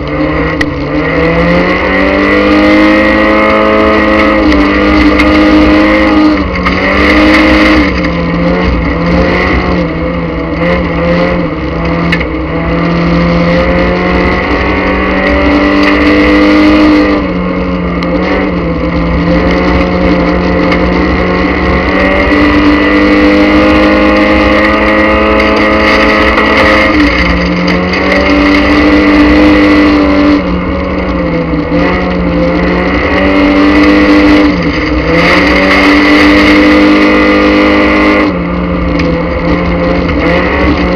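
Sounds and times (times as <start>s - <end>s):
race car engine under load: 0.0s - 40.9s.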